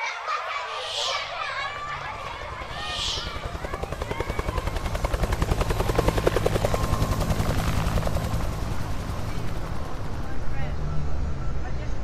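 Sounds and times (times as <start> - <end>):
helicopter rotor chopping: 0.8 - 11.3.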